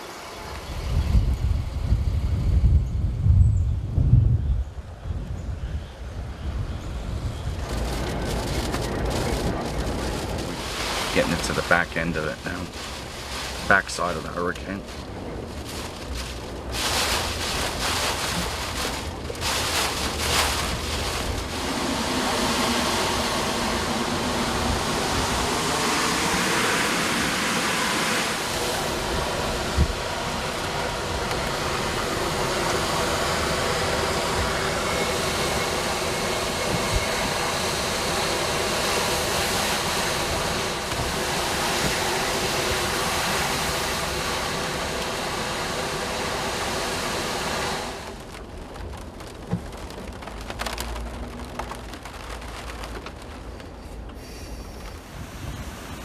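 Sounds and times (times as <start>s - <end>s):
hurricane wind and heavy rain: 0.0s - 56.0s.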